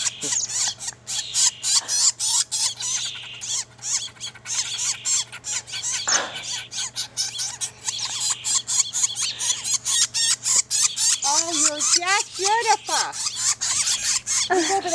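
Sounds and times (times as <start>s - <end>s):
young birds raspy calls: 0.0s - 14.9s.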